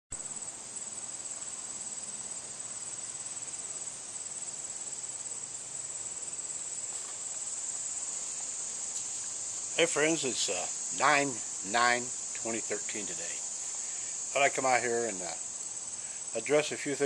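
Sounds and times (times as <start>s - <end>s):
insects trilling: 0.2s - 17.0s.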